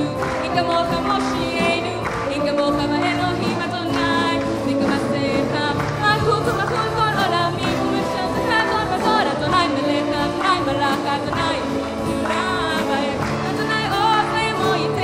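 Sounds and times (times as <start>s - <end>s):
sustained instrumental accompaniment: 0.0s - 15.0s.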